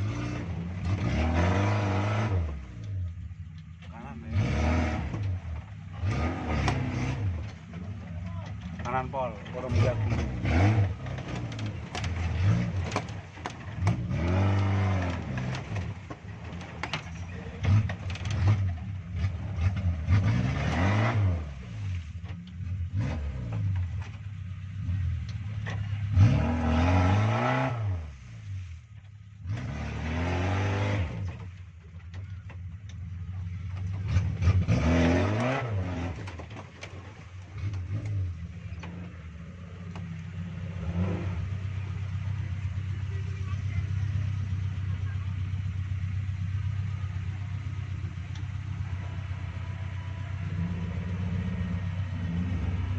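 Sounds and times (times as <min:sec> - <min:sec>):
off-road engine revving: 0:00.0 - 0:52.9.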